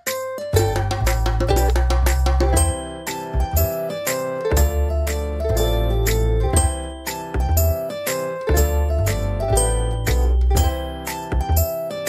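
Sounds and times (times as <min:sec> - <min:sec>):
melody of short pitched notes: 0:00.0 - 0:12.0
deep bass: 0:00.6 - 0:03.8, 0:04.5 - 0:07.8, 0:08.5 - 0:11.7.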